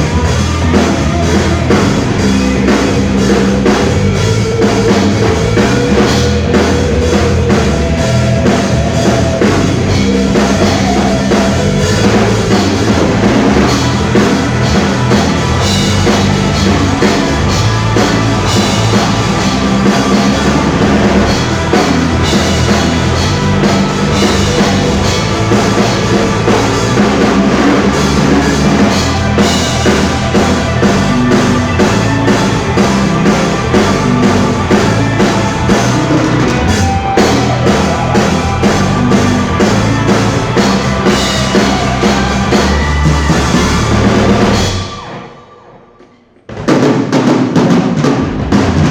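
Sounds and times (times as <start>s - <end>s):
drum kit kick and snare beat: 0.0s - 45.1s
pop-rock band playing live: 0.0s - 45.3s.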